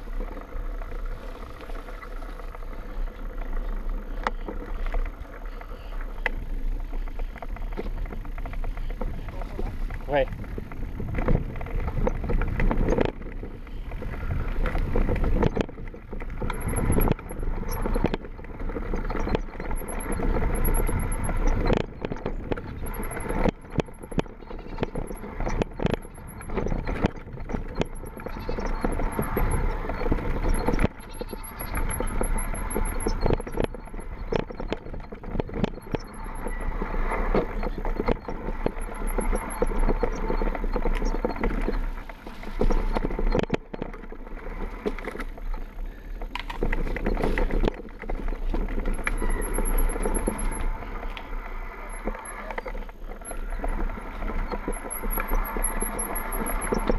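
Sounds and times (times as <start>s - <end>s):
bike frame and chain rattling: 0.0s - 56.9s
tyre and wind rumble: 0.0s - 56.9s.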